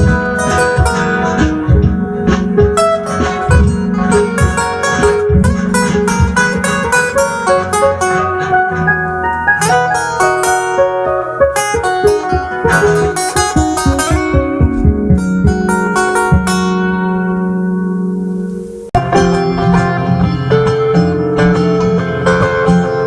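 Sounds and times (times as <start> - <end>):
acoustic guitar picking: 0.0 - 23.0
sustained bass line: 0.0 - 23.0.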